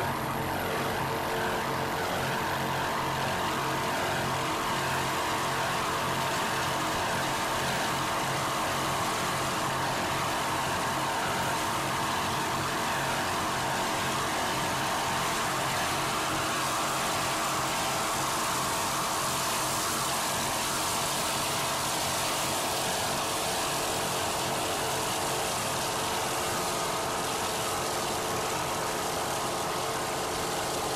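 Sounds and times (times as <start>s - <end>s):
engine drone: 0.0s - 30.9s.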